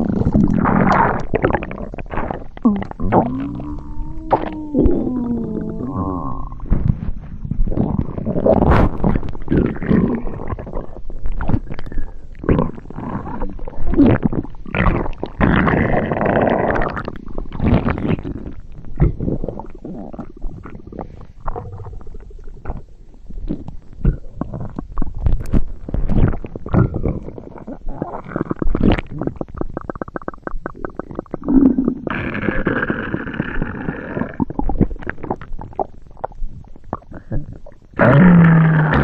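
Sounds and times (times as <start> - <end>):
stomach gurgling and rumbling: 0.0 - 39.0.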